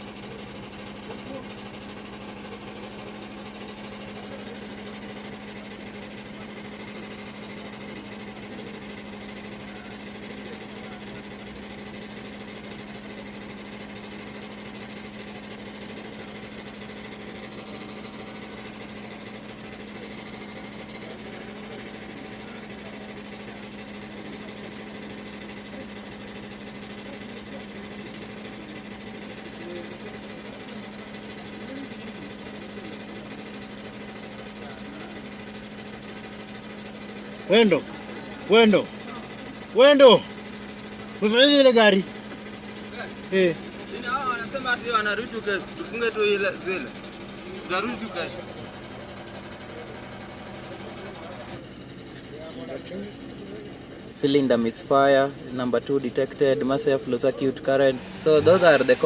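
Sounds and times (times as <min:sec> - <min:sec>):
car engine idling with misfire: 0:00.0 - 0:59.0.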